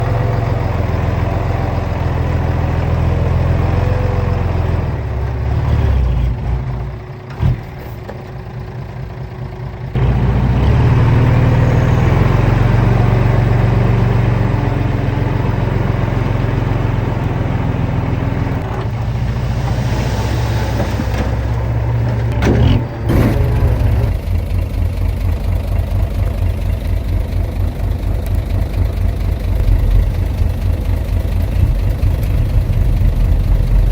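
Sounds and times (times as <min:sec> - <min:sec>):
heavy diesel engine running: 0:00.0 - 0:33.9.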